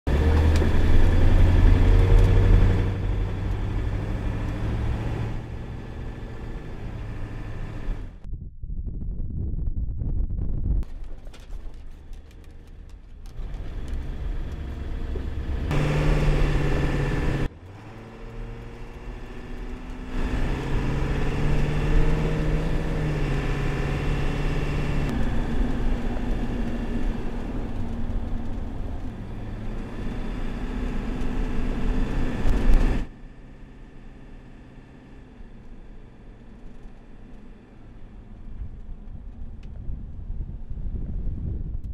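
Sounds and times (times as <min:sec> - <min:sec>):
van diesel engine running: 0:00.1 - 0:08.2, 0:12.2 - 0:39.6.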